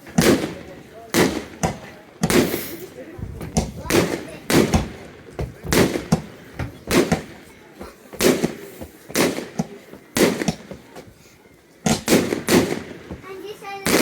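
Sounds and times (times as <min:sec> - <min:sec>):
fireworks banging: 0:00.0 - 0:11.2, 0:11.8 - 0:14.0.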